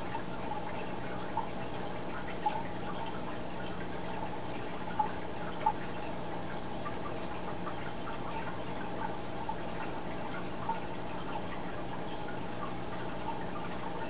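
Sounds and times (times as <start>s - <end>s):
aquarium filter water trickling: 0.0s - 14.0s
soft water drips: 0.0s - 14.0s.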